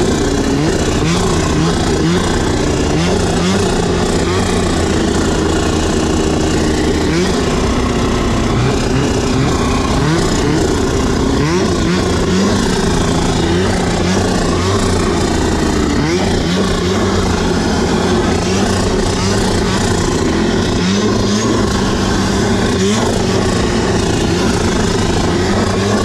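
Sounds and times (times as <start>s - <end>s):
snowmobile engine revving: 0.0s - 26.0s
steady rushing noise: 0.0s - 26.0s.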